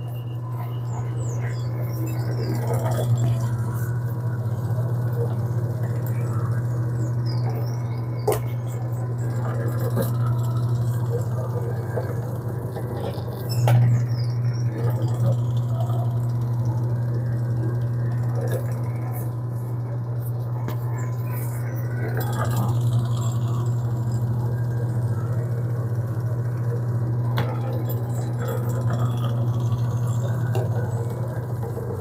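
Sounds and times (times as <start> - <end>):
electric pasta machine humming: 0.0 - 32.0.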